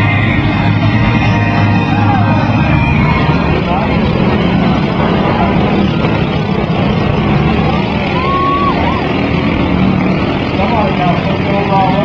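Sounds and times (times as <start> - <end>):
riding lawn mower engines running: 0.0 - 12.0.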